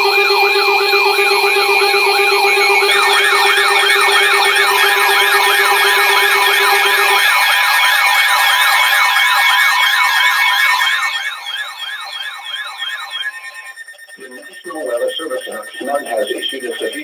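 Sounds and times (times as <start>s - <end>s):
siren yelps rising and falling: 0.0s - 17.0s
steady held alert tones: 0.0s - 17.0s.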